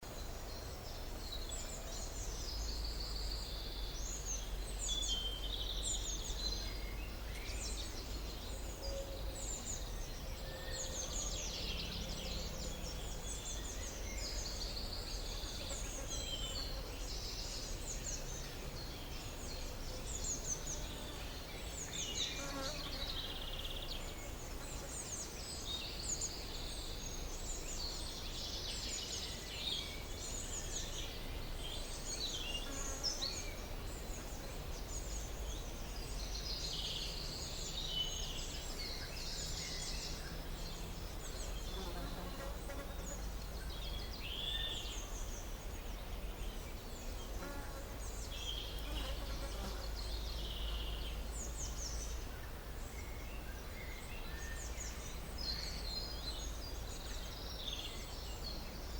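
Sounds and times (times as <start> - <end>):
songbirds chirping and trilling: 0.0 - 58.9.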